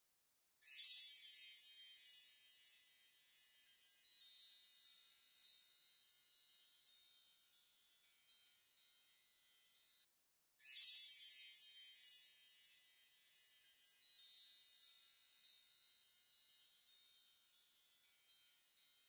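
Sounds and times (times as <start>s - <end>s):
chimes tinkling: 0.6s - 19.0s.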